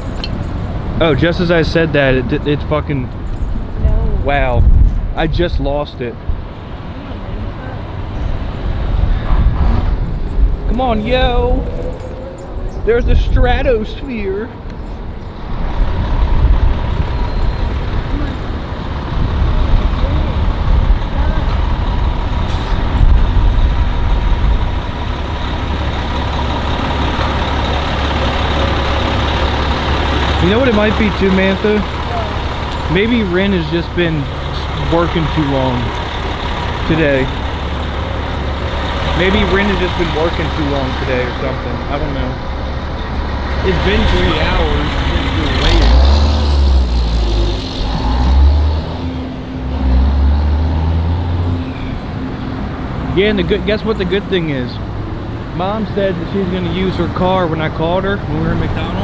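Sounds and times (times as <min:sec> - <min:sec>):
heavy truck engine rumbling: 0:00.0 - 0:59.0
street traffic: 0:00.0 - 0:59.0.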